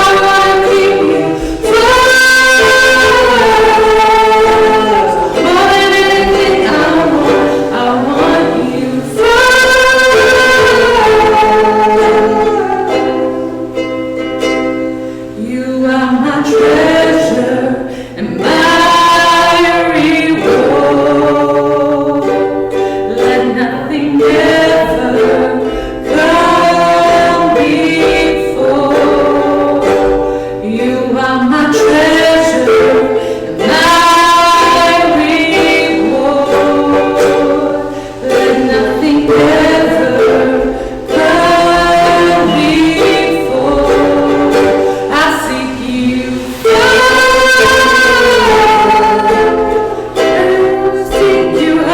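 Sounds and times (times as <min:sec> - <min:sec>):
group singing worship song: 0:00.0 - 0:51.9
musical accompaniment: 0:00.0 - 0:51.9.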